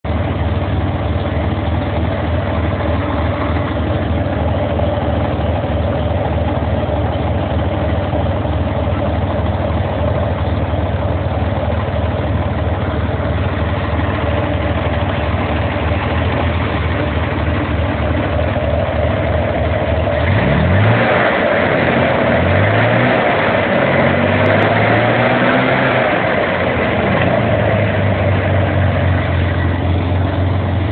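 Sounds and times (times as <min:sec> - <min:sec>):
air-cooled engine idling and revving: 0:00.0 - 0:30.9.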